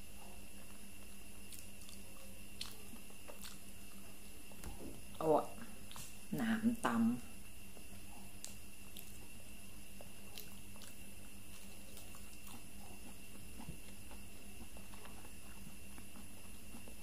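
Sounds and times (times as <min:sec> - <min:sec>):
steady electrical hum: 0:00.0 - 0:17.0
person chewing: 0:00.6 - 0:05.2, 0:07.8 - 0:17.0.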